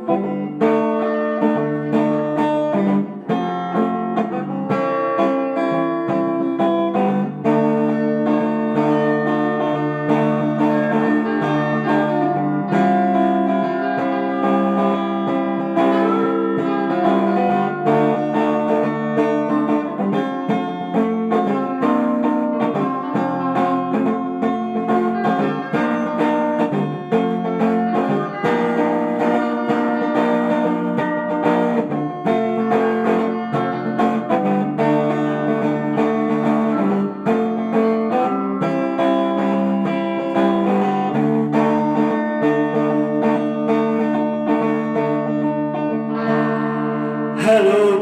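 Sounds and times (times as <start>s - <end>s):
guitar plucked and strummed: 0.0s - 48.0s.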